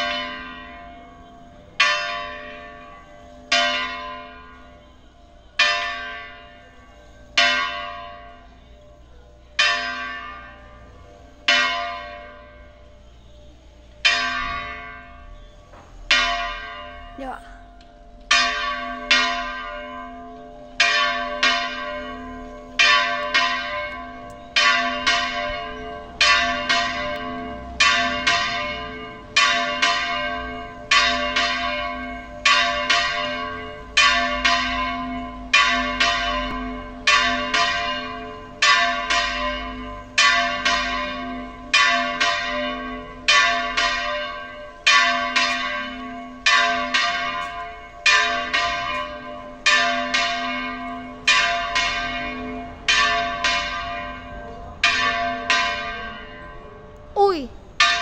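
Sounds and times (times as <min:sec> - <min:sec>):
church bell ringing: 0:00.0 - 0:57.2, 0:57.8 - 0:58.0.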